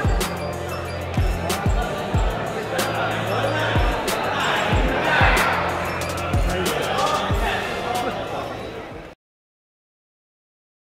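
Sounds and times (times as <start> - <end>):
music and voices: 0.0 - 9.1.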